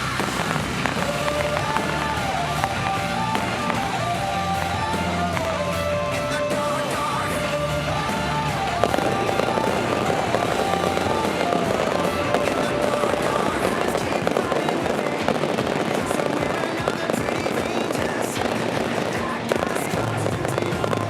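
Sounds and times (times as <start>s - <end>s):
fireworks crackling and banging: 0.0s - 21.0s
music playing: 0.0s - 21.0s.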